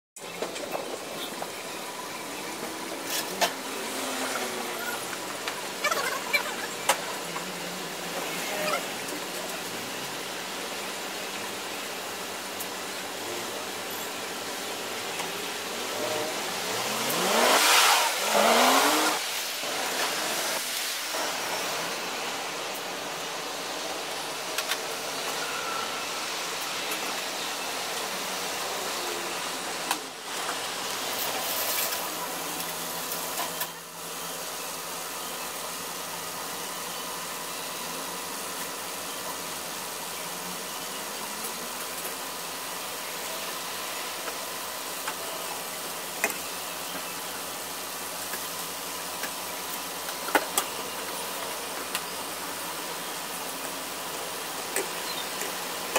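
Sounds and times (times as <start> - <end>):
steady hiss: 6.9 - 55.9.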